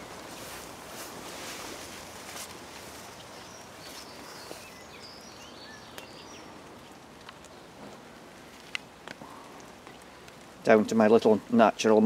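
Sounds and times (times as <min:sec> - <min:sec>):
light rain on foliage: 0:00.0 - 0:12.0.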